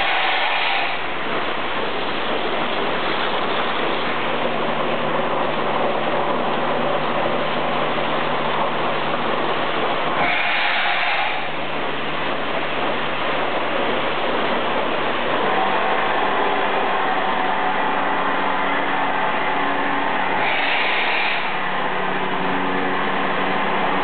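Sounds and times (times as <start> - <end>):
water and air rushing through hoses: 0.0 - 24.0.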